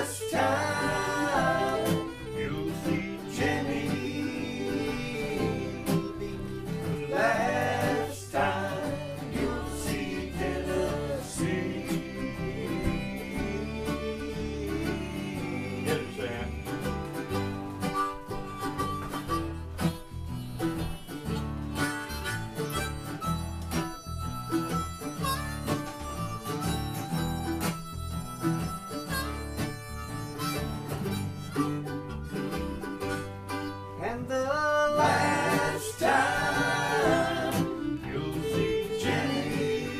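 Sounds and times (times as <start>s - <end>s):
bluegrass band playing: 0.0s - 39.9s
harmonica: 0.0s - 39.9s.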